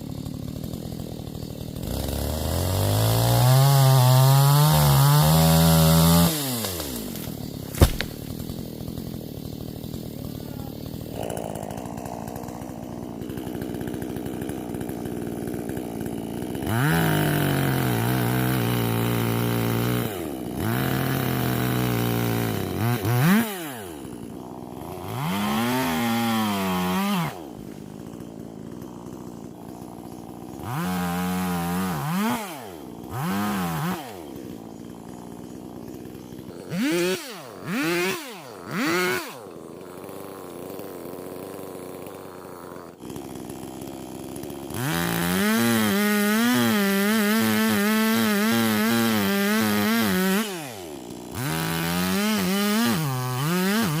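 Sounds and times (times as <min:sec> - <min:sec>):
chainsaw idling and revving: 0:00.0 - 0:54.0.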